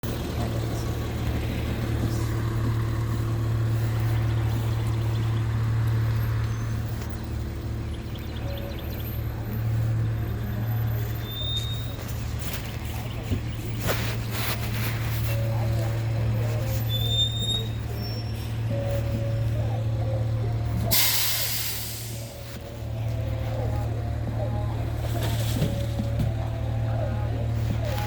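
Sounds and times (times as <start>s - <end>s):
garbage truck engine humming: 0.0s - 28.0s.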